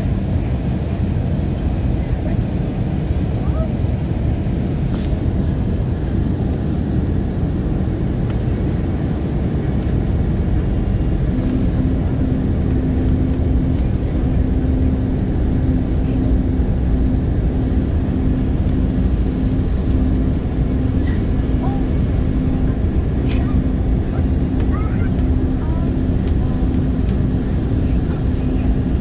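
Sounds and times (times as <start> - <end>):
airliner cabin airflow rush: 0.0 - 29.0
jet engines: 0.0 - 29.0
low steady hum: 0.0 - 29.0.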